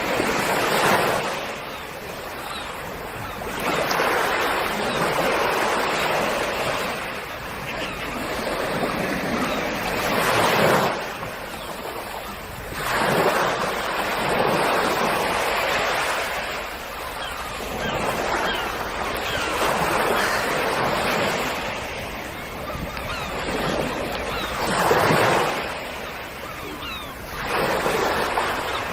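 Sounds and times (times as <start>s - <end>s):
sea waves breaking on shore: 0.0s - 28.9s.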